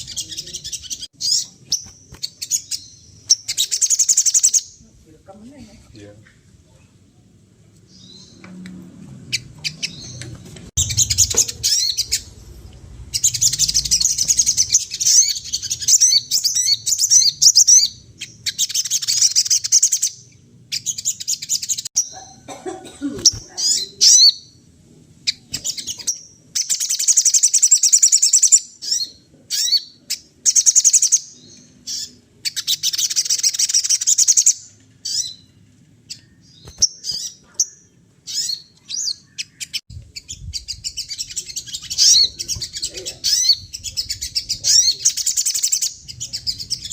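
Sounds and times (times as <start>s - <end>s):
bird singing chattering phrases: 0.0s - 4.8s, 9.3s - 24.6s, 25.2s - 35.5s, 36.1s - 46.9s.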